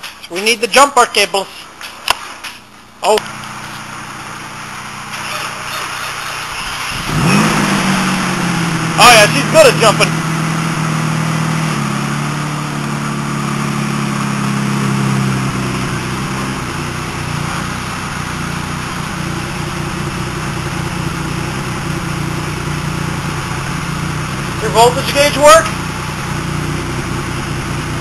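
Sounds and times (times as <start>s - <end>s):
car engine idling: 2.8s - 28.0s.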